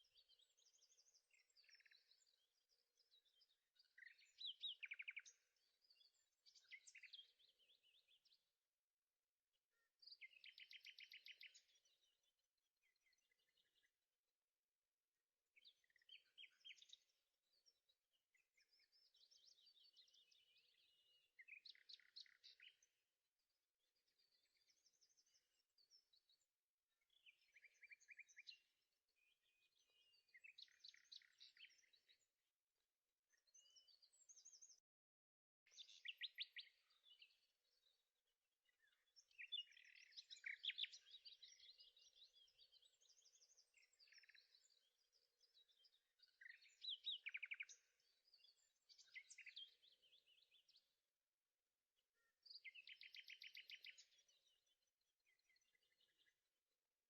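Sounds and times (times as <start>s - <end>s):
faint songbird song: 0.0s - 57.0s.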